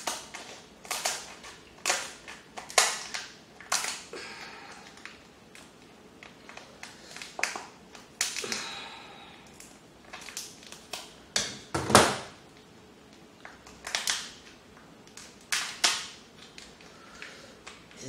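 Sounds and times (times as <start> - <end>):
shellfish shell cracking: 0.0 - 4.1, 4.7 - 8.7, 9.4 - 11.6, 13.1 - 17.9.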